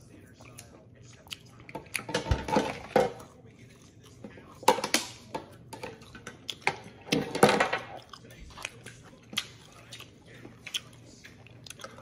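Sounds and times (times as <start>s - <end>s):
man chewing food: 0.0s - 12.0s.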